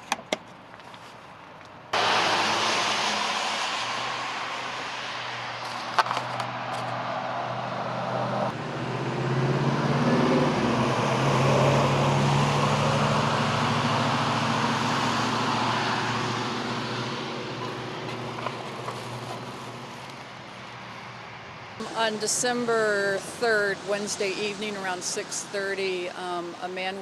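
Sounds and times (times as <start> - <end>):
vehicle passing by: 1.9 - 25.9.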